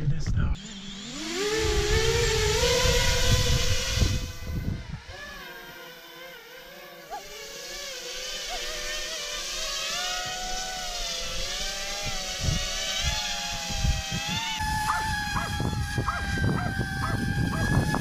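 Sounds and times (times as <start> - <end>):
drone propellers whining: 0.6 - 18.0.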